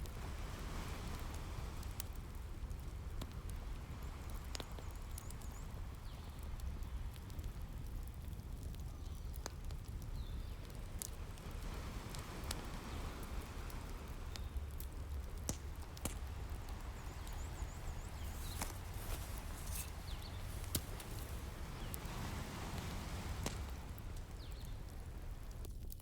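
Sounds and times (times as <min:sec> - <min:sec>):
ocean waves: 0:00.0 - 0:06.0, 0:10.6 - 0:25.6
wood fire crackling and popping: 0:00.0 - 0:26.0.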